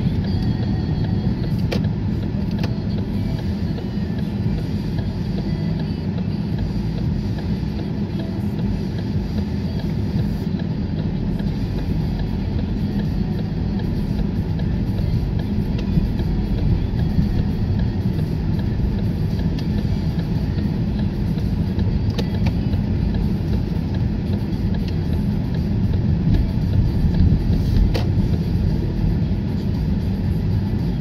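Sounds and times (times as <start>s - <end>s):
car engine and road noise: 0.0s - 31.0s.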